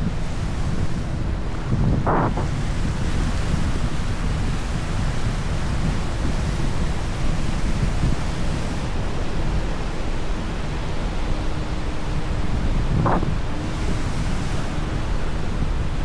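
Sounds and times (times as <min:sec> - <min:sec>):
ocean surf on beach: 0:00.0 - 0:16.0
wind rumbling on microphone: 0:00.0 - 0:16.0.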